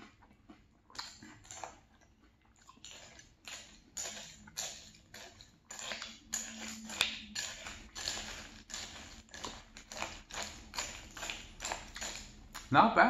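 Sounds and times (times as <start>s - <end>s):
crunchy chewing of cereal: 0.0s - 12.7s.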